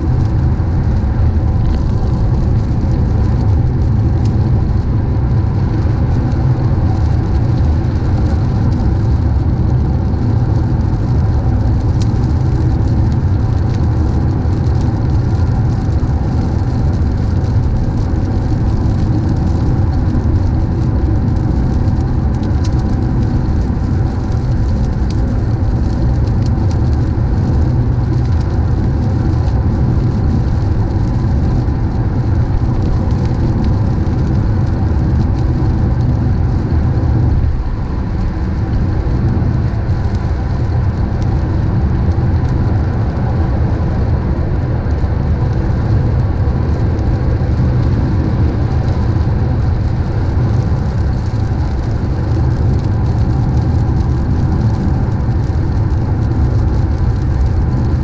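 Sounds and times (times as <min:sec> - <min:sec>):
car road and engine rumble: 0:00.0 - 0:57.9
rain hiss: 0:00.0 - 0:58.0.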